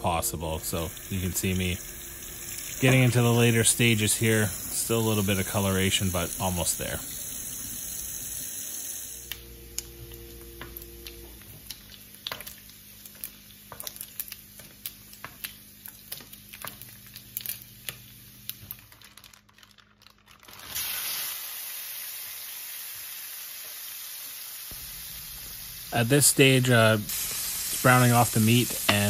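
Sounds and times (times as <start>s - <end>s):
loud steady sizzle of beef: 0.0s - 18.8s, 20.7s - 29.0s
bacon frying with fat popping: 0.7s - 29.0s.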